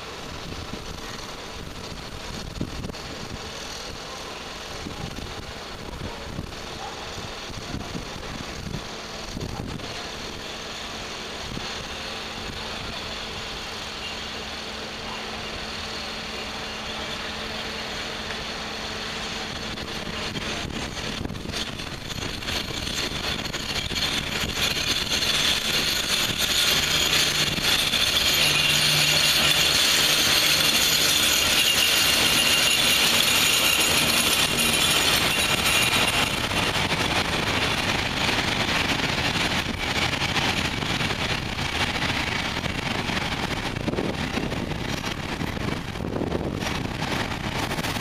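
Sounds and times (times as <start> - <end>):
electric locomotive passing: 0.0 - 48.0.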